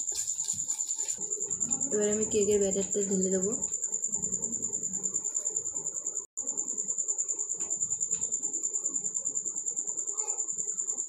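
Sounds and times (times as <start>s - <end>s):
cricket chirping trill: 0.0s - 11.0s.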